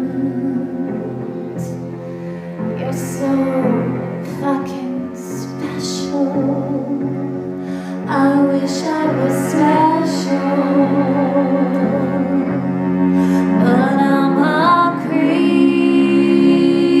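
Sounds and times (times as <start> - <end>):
string ensemble sustained chords: 0.0 - 17.0.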